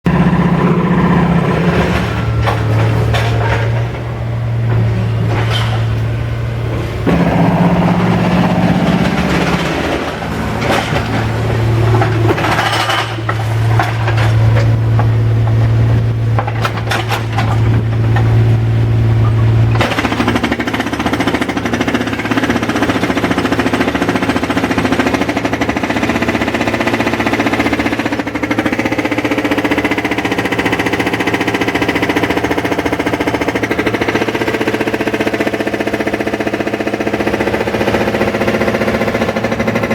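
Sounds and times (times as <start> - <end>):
machinery engine drone: 0.0 - 39.9
jackhammer hammering: 0.1 - 39.9.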